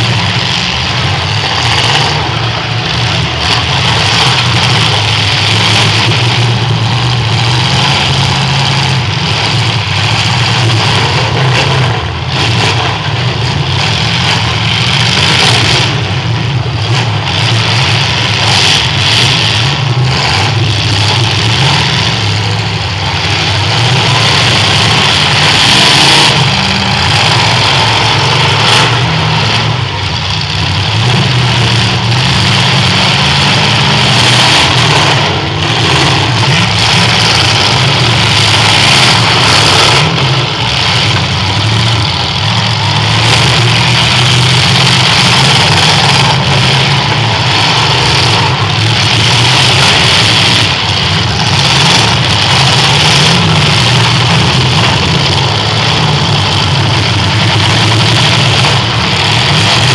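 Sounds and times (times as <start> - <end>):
car engines revving loudly: 0.0 - 59.9.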